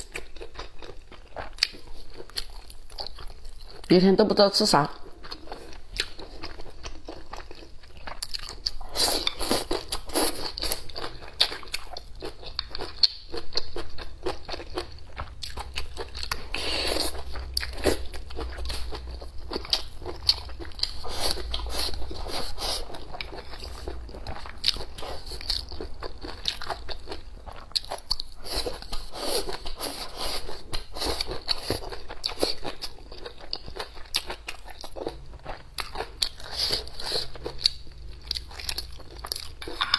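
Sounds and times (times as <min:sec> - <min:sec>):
person chewing crunchy food: 0:00.0 - 0:03.9, 0:05.0 - 0:39.9.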